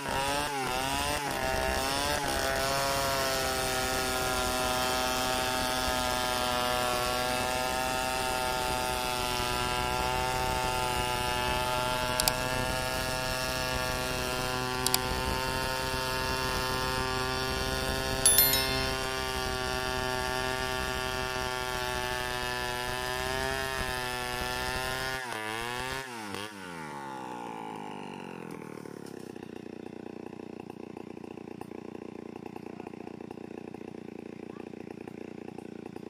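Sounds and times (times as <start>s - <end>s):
chainsaw cutting log: 0.0s - 17.7s, 21.0s - 36.0s.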